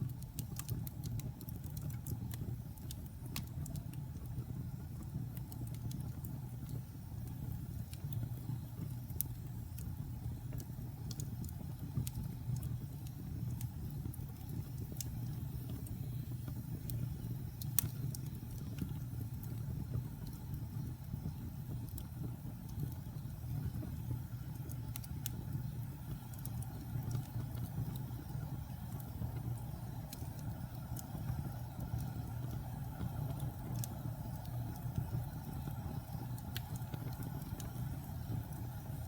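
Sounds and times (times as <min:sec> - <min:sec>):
wood fire burning and crackling: 0:00.0 - 0:39.0.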